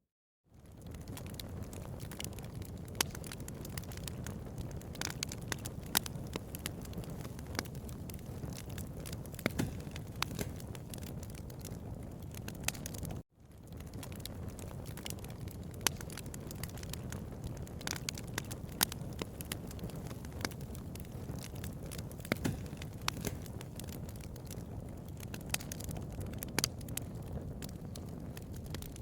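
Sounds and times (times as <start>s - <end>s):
wood fire crackling: 0.6s - 29.0s.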